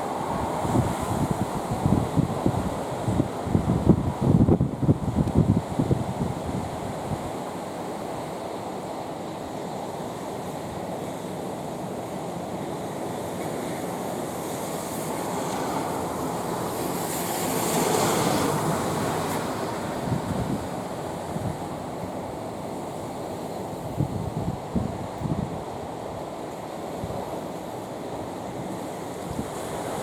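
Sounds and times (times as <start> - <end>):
rough surf waves: 0.0 - 30.0.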